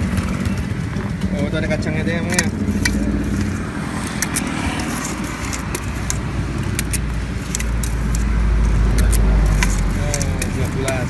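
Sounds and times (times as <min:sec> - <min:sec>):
road traffic rumble: 0:00.0 - 0:11.0
vehicle passing: 0:00.0 - 0:11.0.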